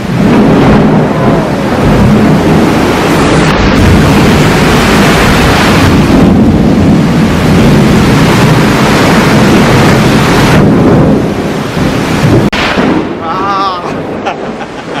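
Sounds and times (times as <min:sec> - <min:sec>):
heavy rain hissing: 0:00.0 - 0:15.0
thunder rumbling: 0:00.0 - 0:15.0.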